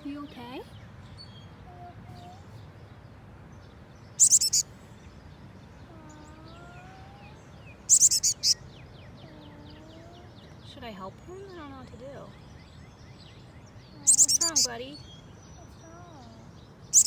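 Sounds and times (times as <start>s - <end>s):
baby bird peeping: 0.0s - 2.7s, 4.0s - 5.1s, 5.7s - 17.0s.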